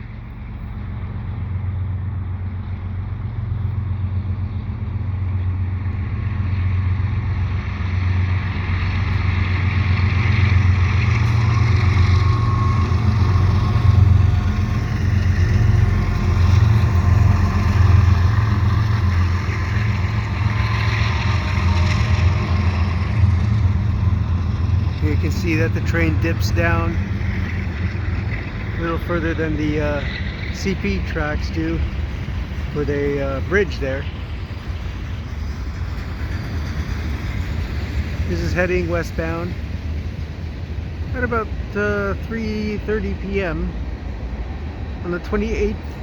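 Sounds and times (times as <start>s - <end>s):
locomotive diesel engines rumbling: 0.0s - 46.0s.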